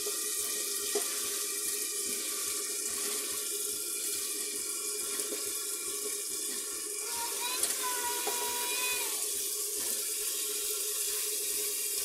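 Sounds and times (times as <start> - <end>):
water running from a tap: 0.0 - 12.0.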